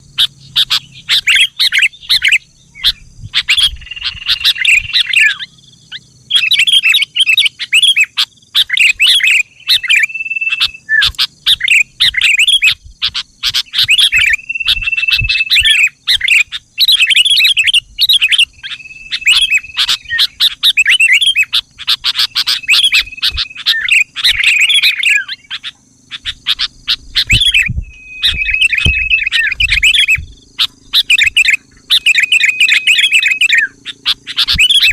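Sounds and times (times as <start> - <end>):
bird singing chattering notes: 0.0 - 34.9.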